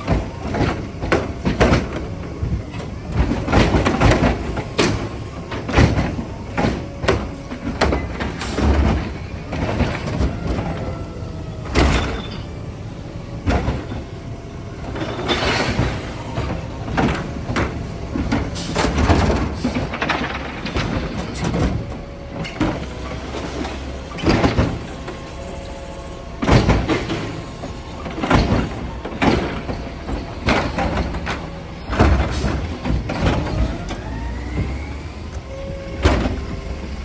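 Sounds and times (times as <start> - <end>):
trash thumping into hopper: 0.0 - 37.0
truck engine rumbling: 0.0 - 37.0.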